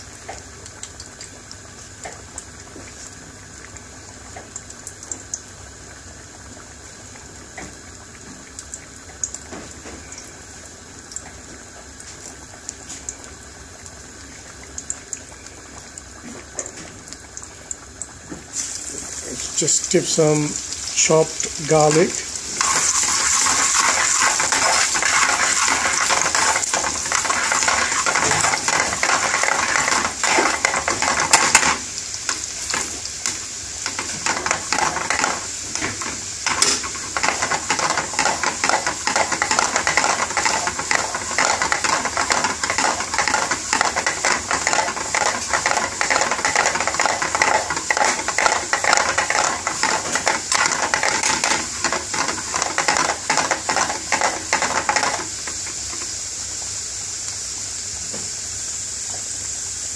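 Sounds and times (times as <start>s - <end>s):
garlic sizzling in frying pan: 0.0s - 59.9s.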